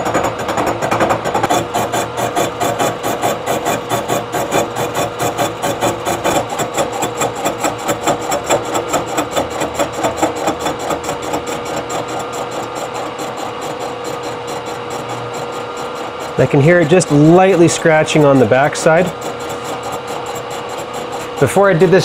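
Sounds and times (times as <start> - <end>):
milling machine whine: 0.0 - 22.0
face mill cutting chatter: 1.4 - 22.0.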